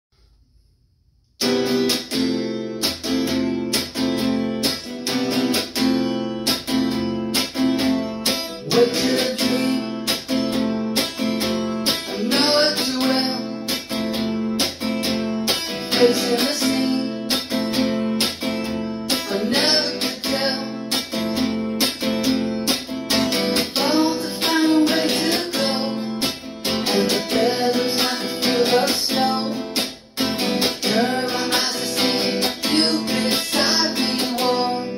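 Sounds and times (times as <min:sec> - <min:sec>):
guitar strumming chords: 0:01.4 - 0:34.9.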